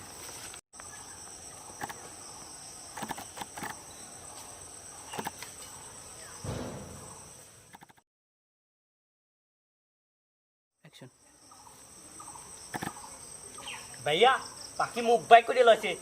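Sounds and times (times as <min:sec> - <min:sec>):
high-pitched insect chorus: 0:00.0 - 0:07.9, 0:10.8 - 0:16.0.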